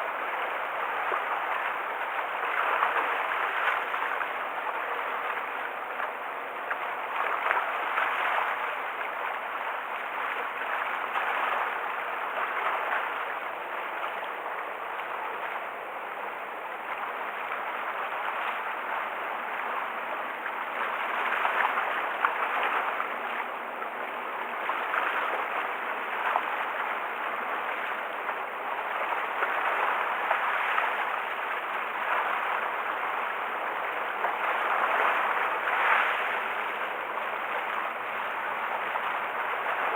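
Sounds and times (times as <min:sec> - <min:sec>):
sea water splashing at shore: 0:00.1 - 0:39.9.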